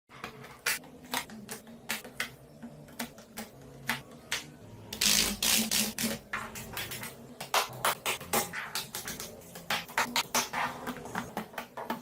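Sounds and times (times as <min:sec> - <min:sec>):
faint background music: 0:00.1 - 0:12.0.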